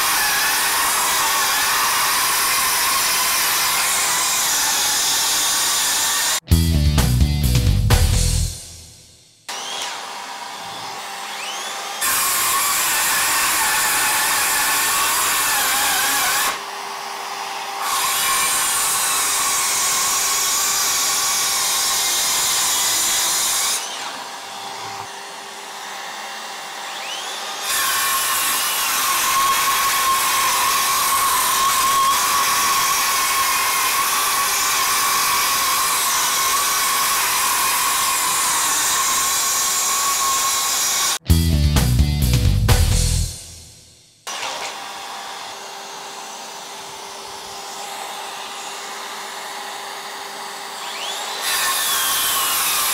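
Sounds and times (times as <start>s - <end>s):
circular saw cutting plywood: 0.0s - 6.5s, 9.5s - 41.2s, 44.2s - 52.9s.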